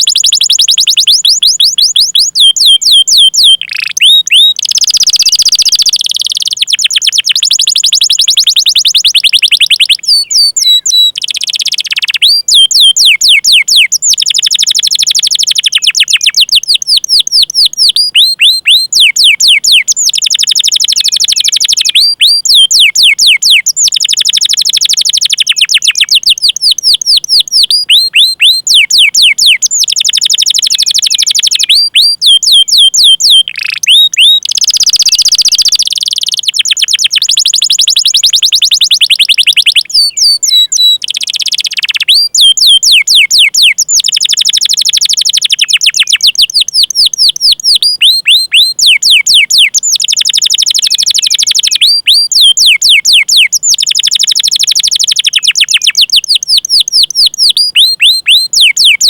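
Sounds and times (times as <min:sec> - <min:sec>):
canary singing chirps and trills: 0:00.0 - 0:59.0.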